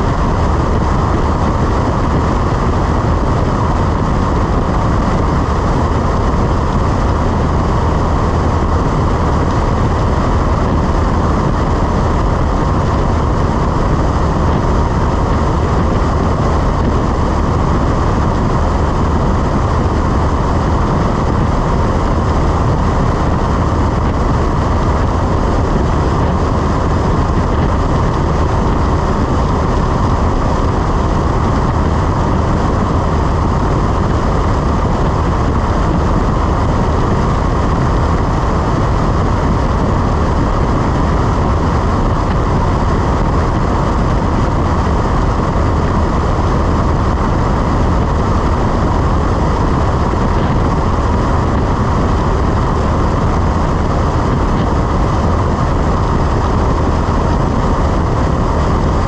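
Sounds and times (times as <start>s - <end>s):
airplane engine droning in flight: 0.0s - 59.0s
rush of air noise: 0.0s - 59.0s.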